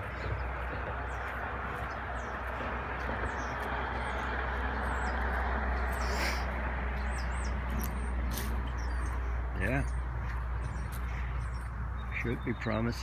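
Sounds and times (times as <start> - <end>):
constant low rumble: 0.0 - 13.0
small birds chirping: 0.0 - 13.0.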